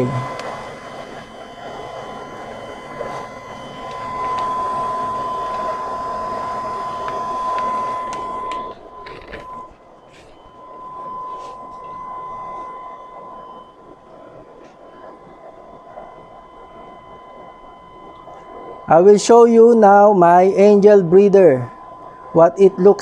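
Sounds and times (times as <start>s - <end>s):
machine noise with high whine: 0.0s - 23.0s.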